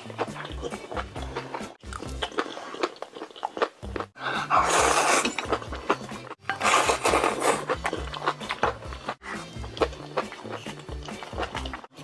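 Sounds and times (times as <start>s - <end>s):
background music with bass line: 0.0s - 2.3s, 3.8s - 12.0s
crunchy bites and chewing: 0.0s - 12.0s.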